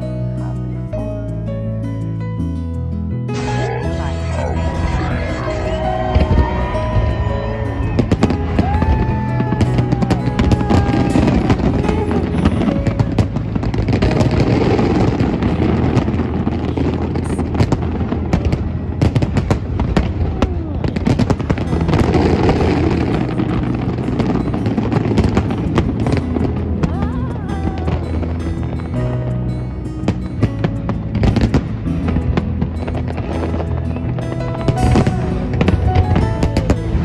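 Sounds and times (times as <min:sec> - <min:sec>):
music playing: 0:00.0 - 0:37.0
fireworks banging and crackling: 0:03.4 - 0:37.0.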